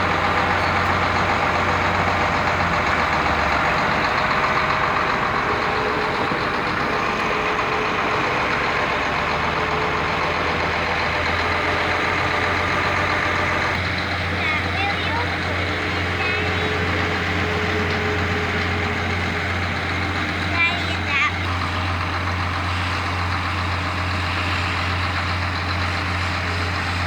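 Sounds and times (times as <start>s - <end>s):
baler and engine running: 0.0s - 27.0s.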